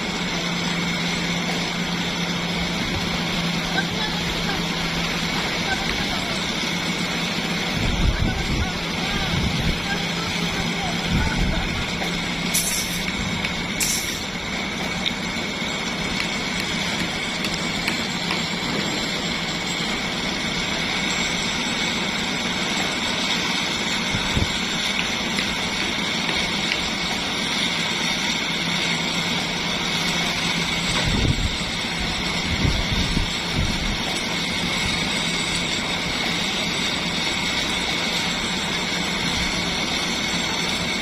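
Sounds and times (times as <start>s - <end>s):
construction machinery engine drone: 0.0s - 41.0s
high whine: 0.0s - 41.0s.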